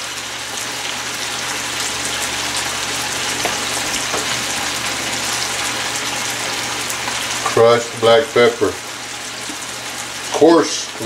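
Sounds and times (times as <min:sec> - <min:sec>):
vegetables sizzling in skillet: 0:00.0 - 0:11.0.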